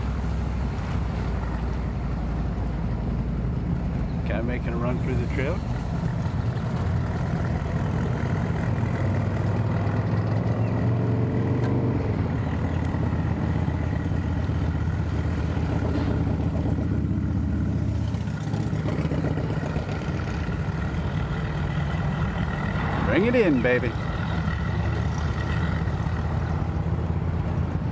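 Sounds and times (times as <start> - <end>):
engine humming: 0.0 - 27.9.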